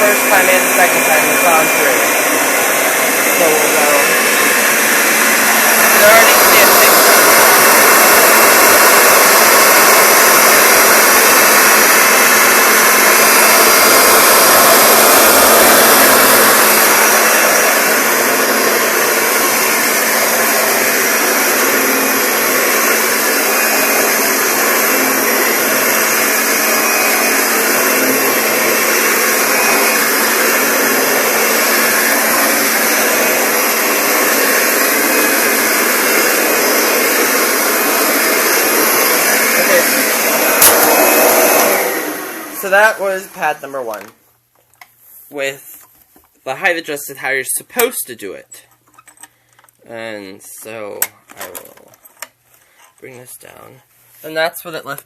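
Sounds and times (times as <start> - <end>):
vacuum cleaner running on carpet: 0.0 - 44.1.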